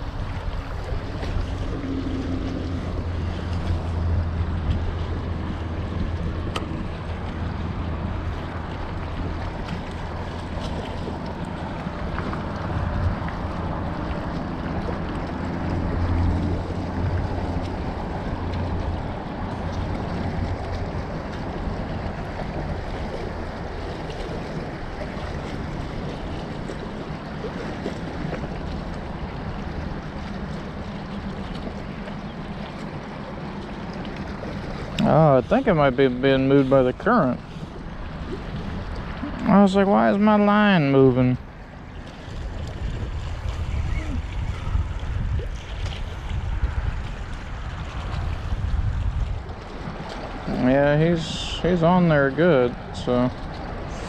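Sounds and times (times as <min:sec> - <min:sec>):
low motor hum: 0:00.0 - 0:54.0
moving water: 0:00.0 - 0:54.0
wind buffeting microphone: 0:00.0 - 0:54.0.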